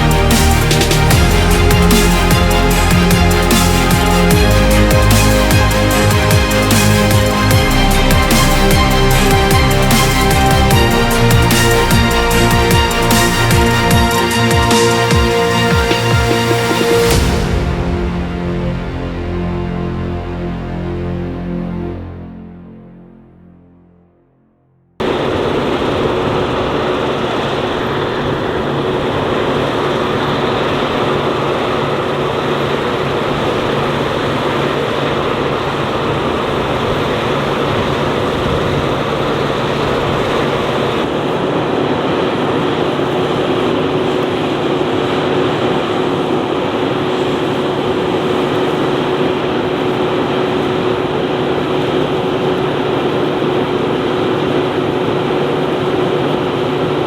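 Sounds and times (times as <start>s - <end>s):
held whine: 0.0s - 21.6s, 25.0s - 57.0s
heavy farm machinery running: 0.0s - 22.2s, 25.0s - 57.0s.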